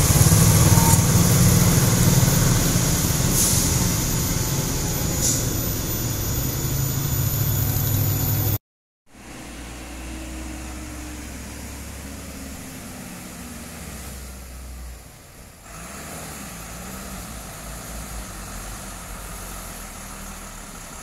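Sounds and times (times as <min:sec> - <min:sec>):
diesel truck engines pulling uphill: 0:00.0 - 0:21.0.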